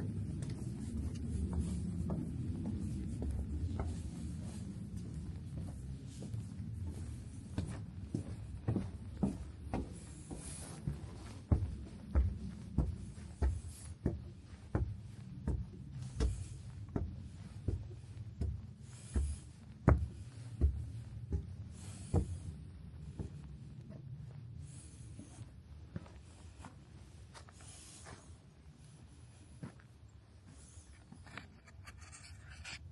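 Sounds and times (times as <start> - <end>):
footsteps walking: 0.0 - 32.8.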